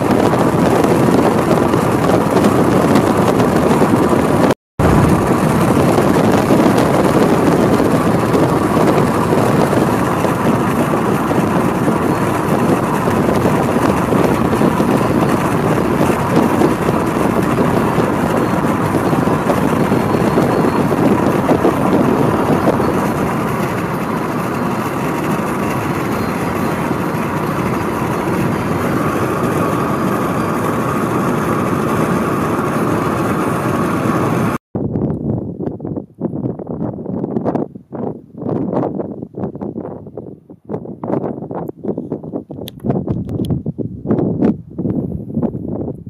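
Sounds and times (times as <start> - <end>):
car road and wind noise: 0.0 - 46.0.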